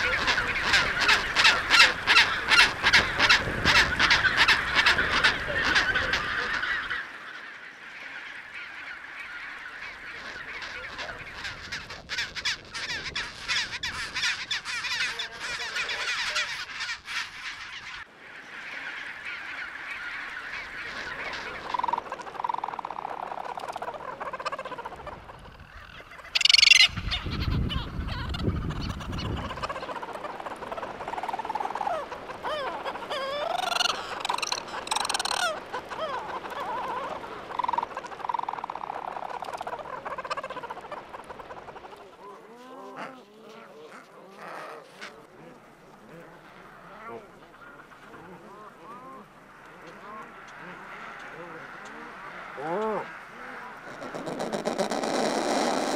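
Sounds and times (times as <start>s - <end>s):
many penguins calling: 0.0s - 55.9s.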